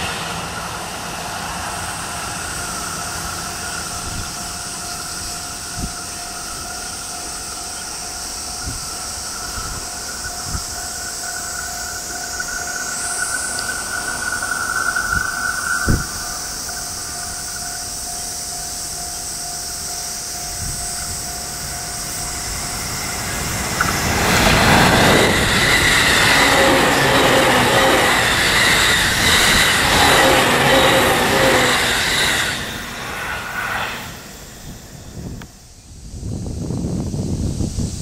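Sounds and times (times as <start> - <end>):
distant train rail noise: 0.0 - 38.0
electric train passing at speed: 0.0 - 38.0.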